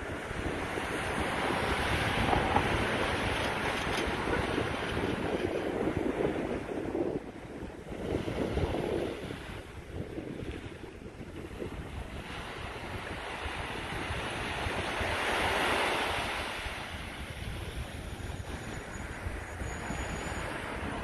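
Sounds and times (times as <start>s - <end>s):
sea waves: 0.0s - 21.0s
wind buffeting microphone: 0.0s - 21.0s.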